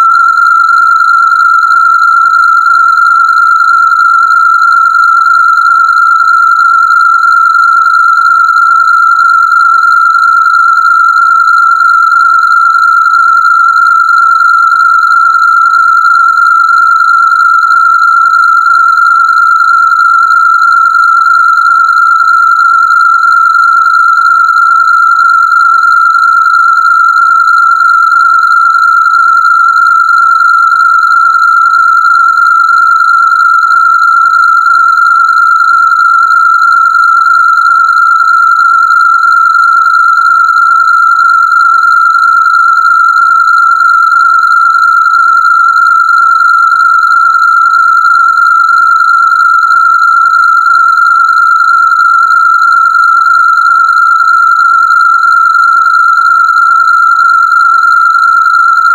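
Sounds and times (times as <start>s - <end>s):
high-pitched electronic test tone: 0.0s - 58.9s.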